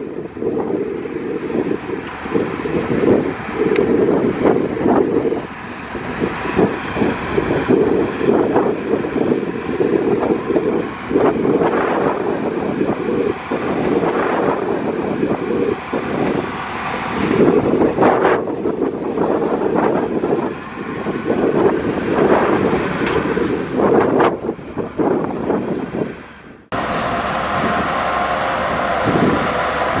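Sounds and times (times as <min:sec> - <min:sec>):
diesel machinery engine rumbling: 0:00.0 - 0:30.0
wind buffeting microphone: 0:00.0 - 0:30.0.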